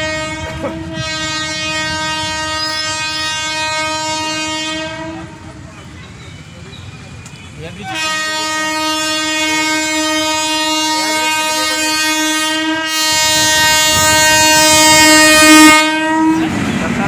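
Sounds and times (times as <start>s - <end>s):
train air horn blast: 0.0s - 5.5s, 7.8s - 17.0s.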